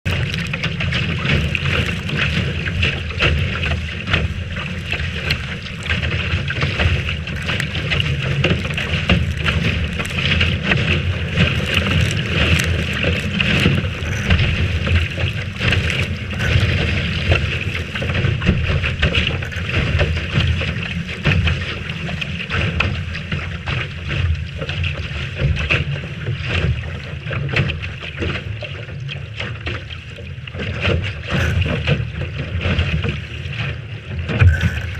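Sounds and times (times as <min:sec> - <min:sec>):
water rushing along a hull: 0:00.0 - 0:34.9.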